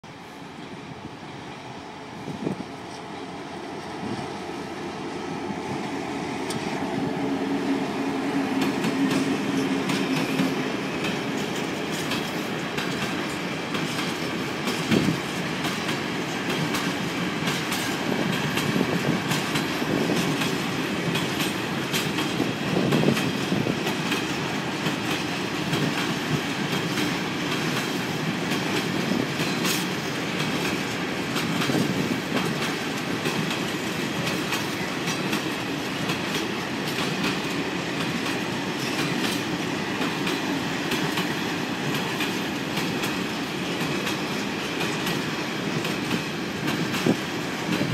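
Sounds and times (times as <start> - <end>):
diesel locomotive engine drone: 0.0 - 47.9
train wheels clicking over rail joints: 2.4 - 47.9.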